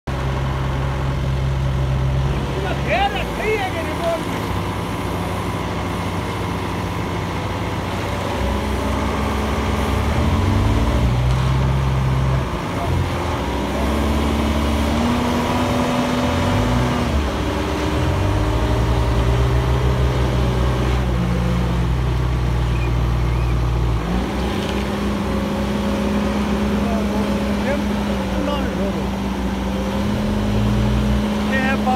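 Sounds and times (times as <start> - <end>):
diesel engine revving under load: 0.1 - 31.9.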